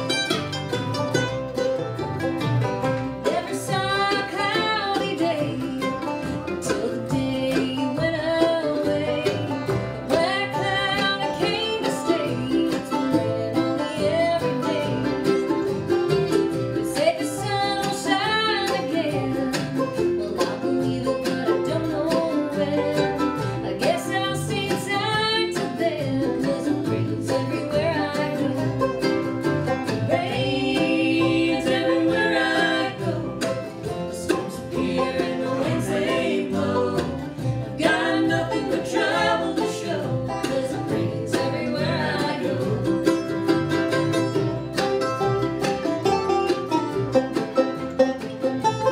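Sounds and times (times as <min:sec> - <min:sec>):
banjo: 0:00.0 - 0:48.9
bluegrass band playing: 0:00.0 - 0:48.9
fiddle: 0:00.0 - 0:48.9.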